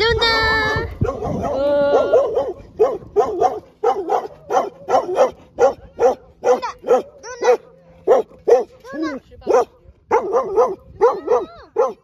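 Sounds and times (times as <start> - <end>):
dog barking: 1.0 - 12.0.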